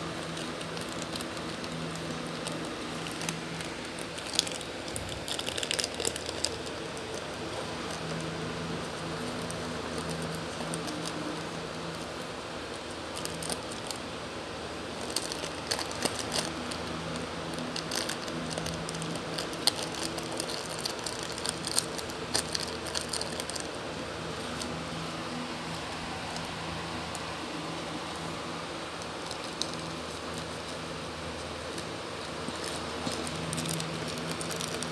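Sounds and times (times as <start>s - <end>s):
dog chewing plastic wrapper: 0.0s - 14.1s, 14.8s - 34.9s.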